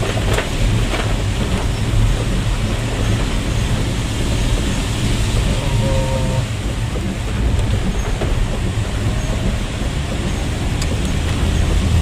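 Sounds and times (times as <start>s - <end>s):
low engine drone: 0.0s - 12.0s
road and tyre noise: 0.0s - 12.0s.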